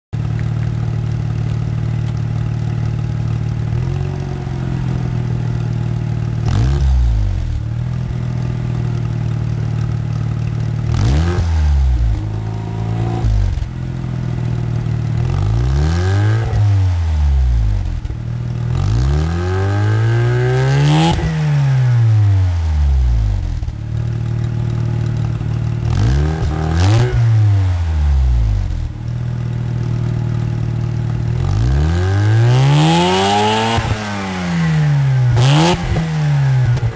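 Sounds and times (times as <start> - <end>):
rotary engine idling and revving: 0.2 - 36.9.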